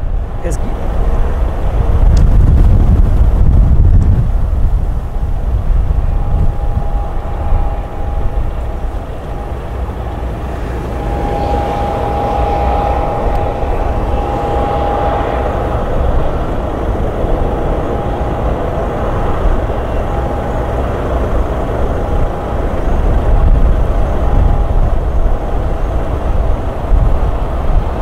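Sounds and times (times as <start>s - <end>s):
jet engines rumbling with whine: 0.0s - 28.0s.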